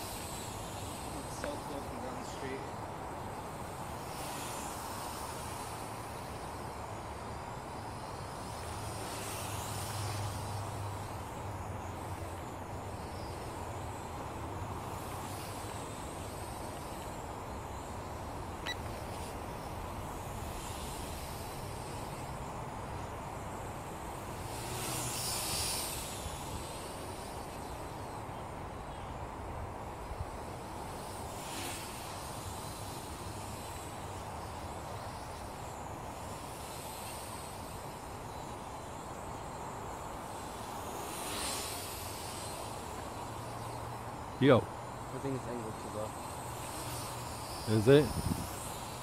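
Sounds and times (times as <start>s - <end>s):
toy drone propellers whirring: 0.0s - 29.0s, 29.8s - 49.0s
outdoor background noise: 0.0s - 49.0s
steady low hum: 0.0s - 49.0s.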